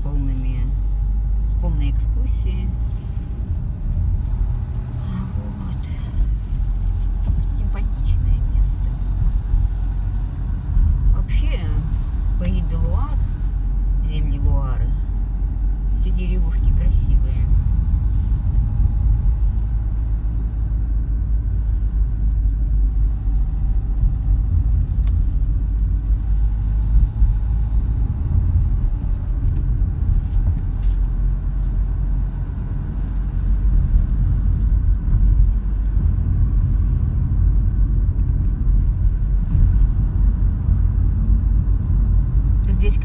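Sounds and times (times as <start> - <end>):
car driving rumble from inside: 0.0 - 43.0.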